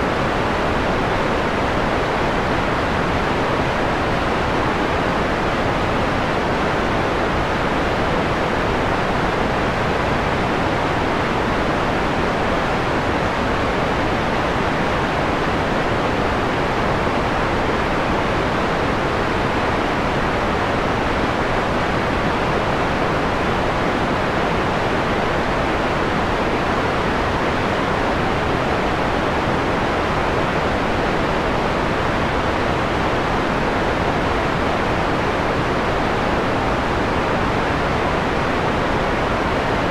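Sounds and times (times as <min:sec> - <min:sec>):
filtered white noise hiss: 0:00.0 - 0:39.9.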